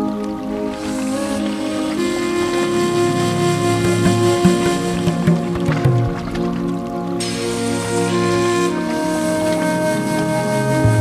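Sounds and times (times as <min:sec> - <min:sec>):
calm soft background music: 0:00.0 - 0:11.0.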